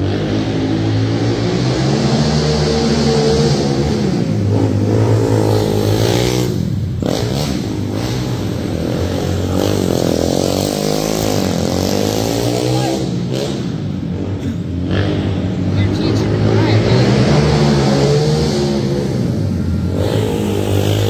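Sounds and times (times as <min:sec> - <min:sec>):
quad engine revving: 0:00.0 - 0:21.0.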